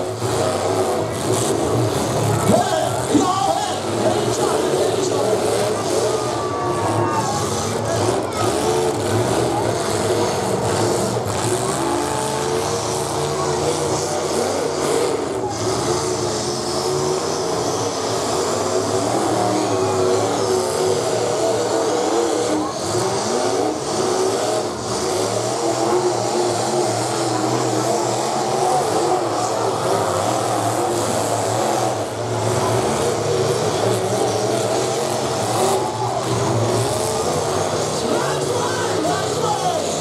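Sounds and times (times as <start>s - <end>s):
truck engines revving hard: 0.0s - 40.0s.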